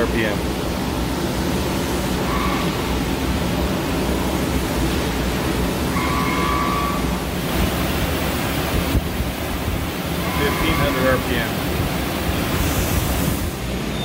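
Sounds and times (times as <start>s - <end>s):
lathe spindle rushing noise: 2.2s - 13.9s.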